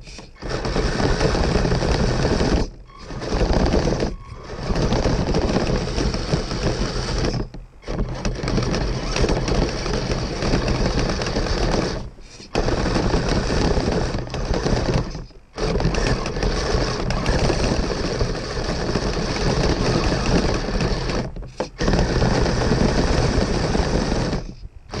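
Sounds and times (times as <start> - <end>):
electric motor whirring: 0.0 - 25.0
tracks clattering: 0.0 - 25.0.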